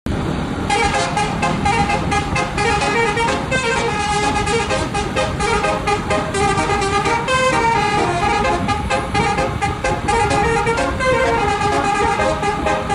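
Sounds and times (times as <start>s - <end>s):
musical bus horn melody: 0.4s - 12.9s.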